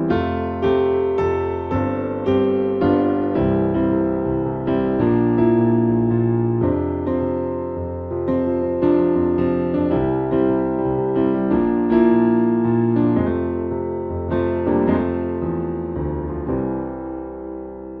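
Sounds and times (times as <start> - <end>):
keyboard chords: 0.0 - 18.0.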